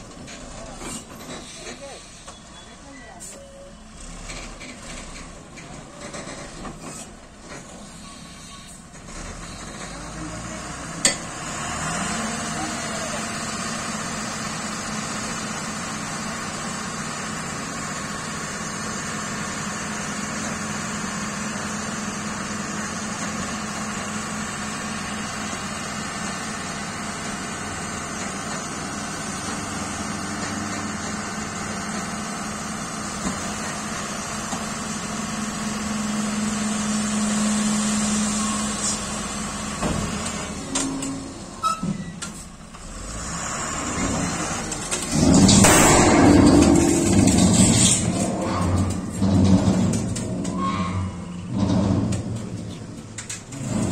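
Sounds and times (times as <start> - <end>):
diesel engine droning: 0.0 - 53.9.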